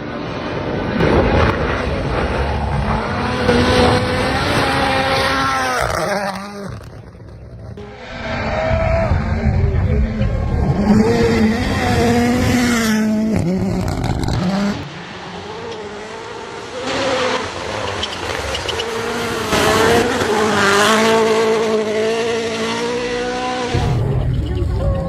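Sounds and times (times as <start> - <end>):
rally car engines revving: 0.0 - 25.0.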